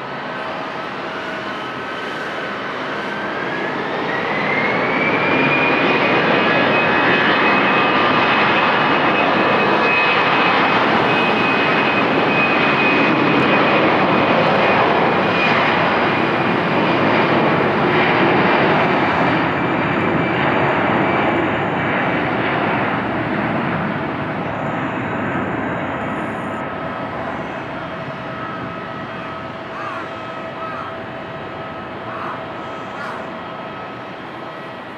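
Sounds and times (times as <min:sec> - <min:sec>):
jet engines roaring at takeoff: 0:00.0 - 0:34.9.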